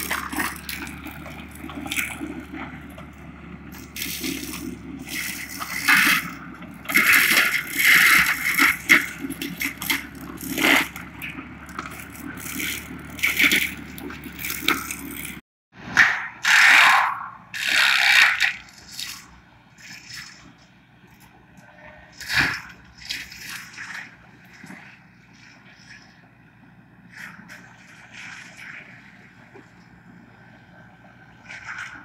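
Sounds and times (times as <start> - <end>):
mulcher shredding brush: 0.0 - 26.4.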